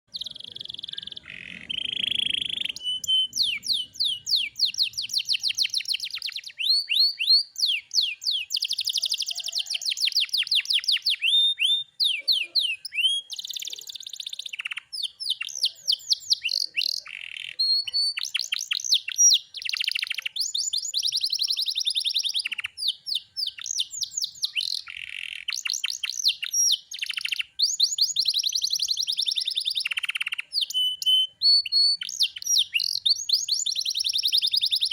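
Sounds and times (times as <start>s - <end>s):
canary singing: 0.1s - 34.9s.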